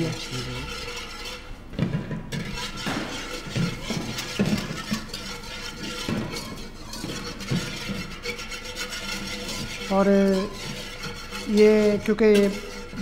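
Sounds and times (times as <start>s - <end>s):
whisk scraping metal pan: 0.0s - 13.0s.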